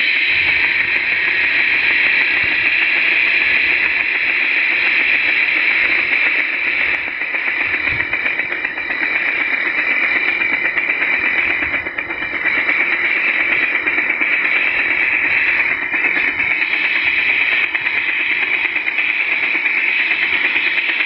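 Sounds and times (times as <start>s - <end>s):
helicopter engine and rotor sound: 0.0s - 21.0s.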